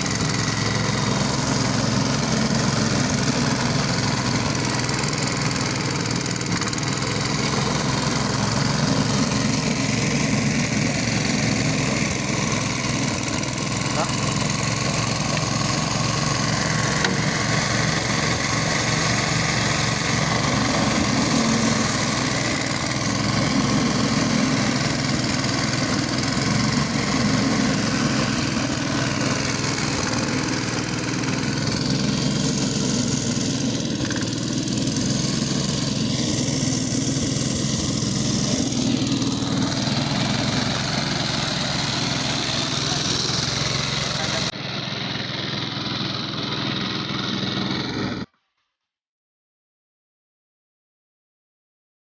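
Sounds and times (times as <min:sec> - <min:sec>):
push lawn mower engine running: 0:00.0 - 0:48.3.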